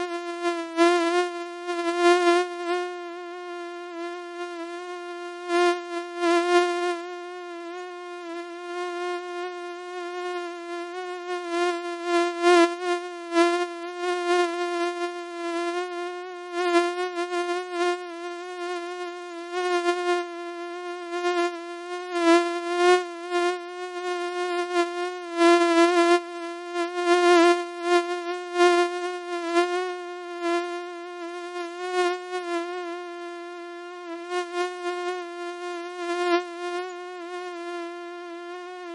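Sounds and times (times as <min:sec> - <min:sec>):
mosquito wingbeat whine: 0:00.0 - 0:38.9.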